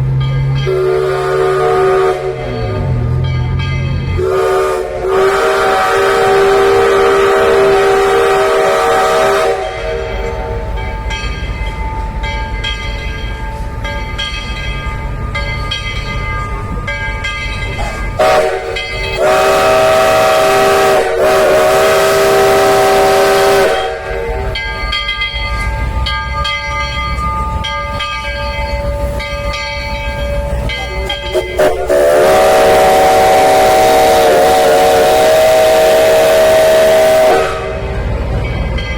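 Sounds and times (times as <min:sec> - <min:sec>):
locomotive pulsing rumble: 0:00.0 - 0:38.9
steam locomotive chime whistle: 0:00.2 - 0:13.2, 0:17.7 - 0:38.9.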